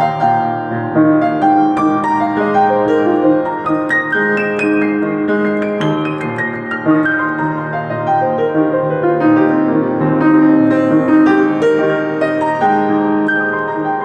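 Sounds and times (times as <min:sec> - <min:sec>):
solo piano improvising: 0:00.0 - 0:14.0.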